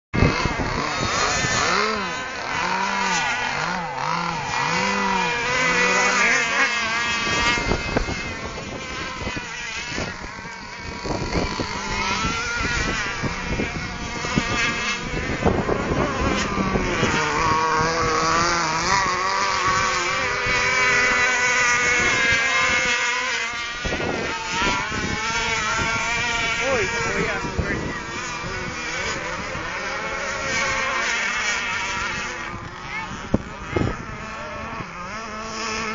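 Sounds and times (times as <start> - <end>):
model boat motors whining: 0.2 - 35.9.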